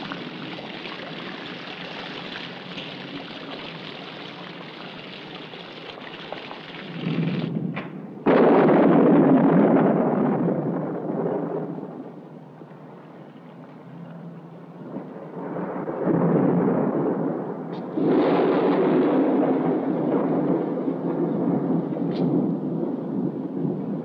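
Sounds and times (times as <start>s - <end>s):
deep rumble: 0.0s - 24.0s.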